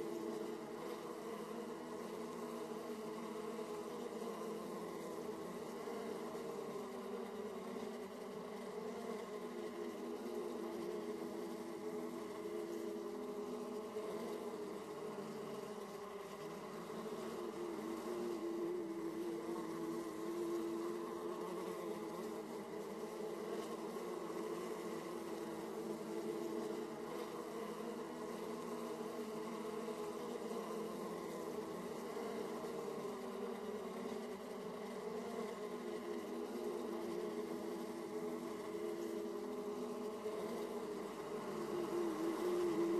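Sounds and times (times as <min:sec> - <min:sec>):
honeybees buzzing: 0:00.0 - 0:42.9.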